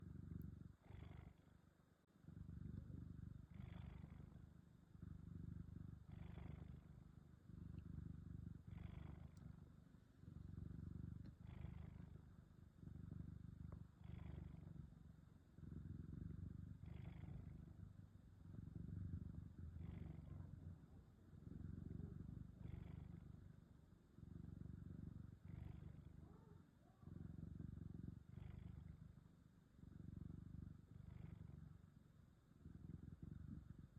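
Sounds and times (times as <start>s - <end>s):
cat snoring softly: 0.0s - 33.9s.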